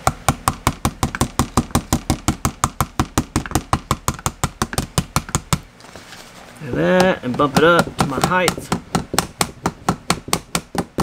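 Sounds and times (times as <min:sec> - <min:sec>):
hammer tapping plastic box: 0:00.0 - 0:05.7, 0:06.7 - 0:11.0.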